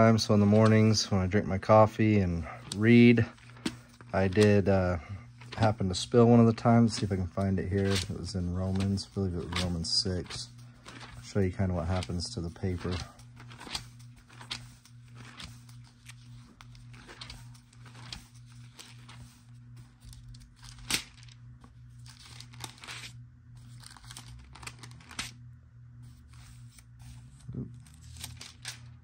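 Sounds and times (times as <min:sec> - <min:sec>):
thin paper pages rustling: 0:00.0 - 0:01.0, 0:02.5 - 0:25.4, 0:26.0 - 0:29.0
steady low hum: 0:00.0 - 0:29.0.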